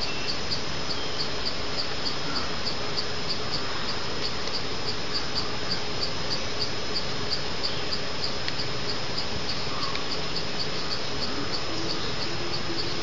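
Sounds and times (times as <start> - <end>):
insect chirping: 0.0 - 13.0
steady hiss: 0.0 - 13.0.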